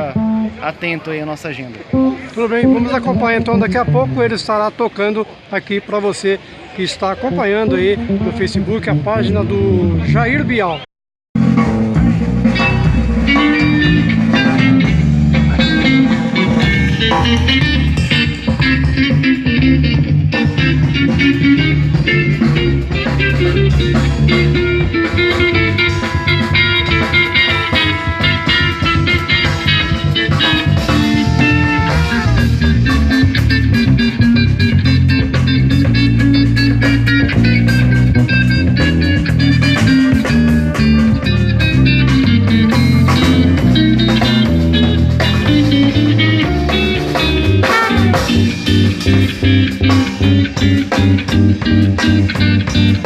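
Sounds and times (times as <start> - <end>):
live jazz band playing: 0.0 - 0.8, 1.8 - 4.8, 7.2 - 10.8, 11.4 - 53.0
guitar: 0.0 - 5.5, 7.0 - 10.8, 11.4 - 53.0.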